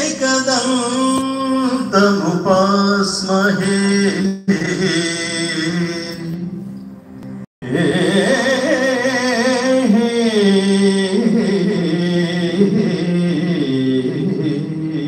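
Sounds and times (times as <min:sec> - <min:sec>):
man singing a prayer: 0:00.0 - 0:06.6, 0:07.6 - 0:15.0.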